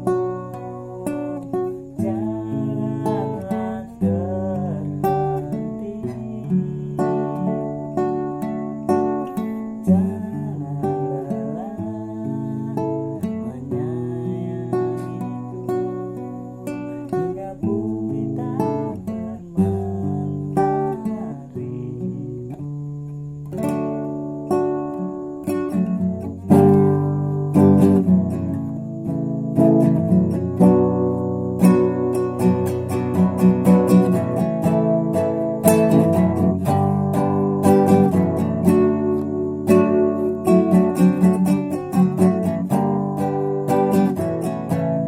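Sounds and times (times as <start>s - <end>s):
classical guitar playing: 0.0s - 45.0s.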